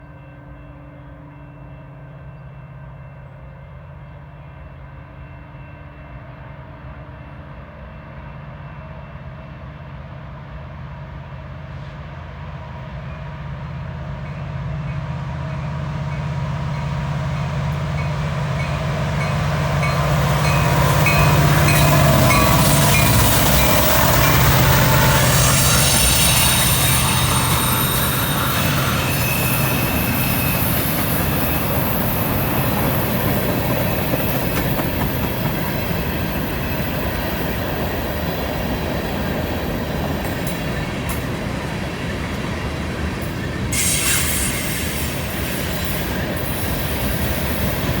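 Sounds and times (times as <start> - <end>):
rail and wheel noise: 0.0 - 48.0
diesel locomotives droning: 6.2 - 48.0.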